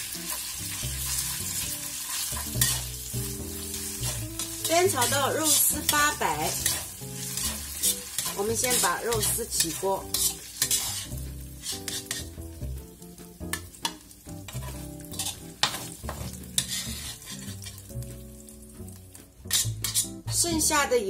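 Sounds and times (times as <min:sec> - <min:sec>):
oil sizzling in a pan: 0:00.0 - 0:20.9
metal spatula scraping a wok: 0:00.2 - 0:12.6, 0:13.5 - 0:18.0, 0:19.4 - 0:20.5.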